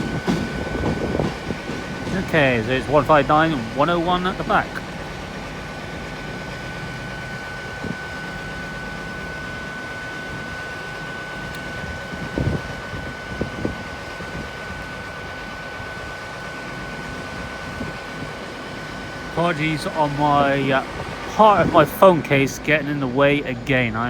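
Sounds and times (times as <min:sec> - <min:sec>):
high-pitched whine: 0:00.0 - 0:24.0
mechanical hum: 0:00.0 - 0:24.0.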